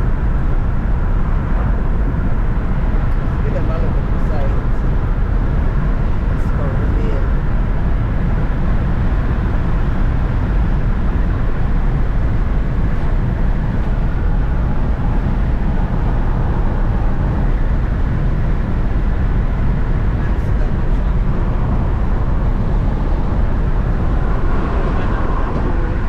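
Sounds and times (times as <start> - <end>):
car road and wind noise: 0.0 - 26.0.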